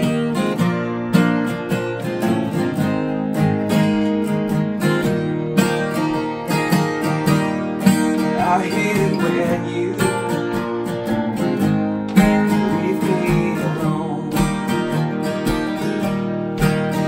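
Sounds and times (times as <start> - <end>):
acoustic guitars strummed: 0.0 - 17.0.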